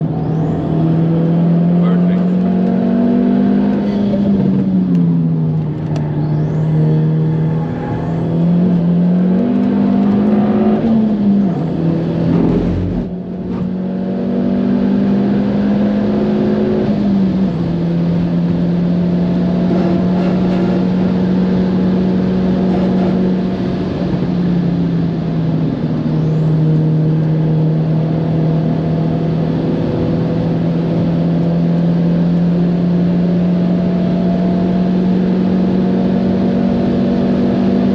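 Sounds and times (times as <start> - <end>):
car engine pulling hard: 0.0 - 37.9.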